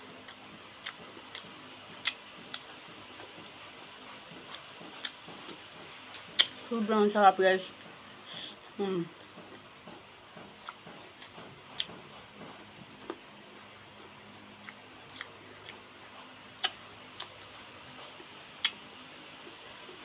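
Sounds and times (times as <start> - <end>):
chewing and crunching: 0.0 - 6.8, 7.7 - 20.0.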